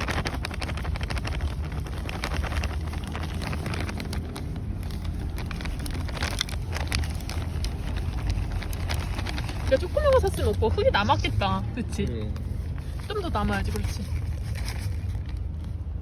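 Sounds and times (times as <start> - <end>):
potting soil crackling and rustling: 0.0 - 16.0.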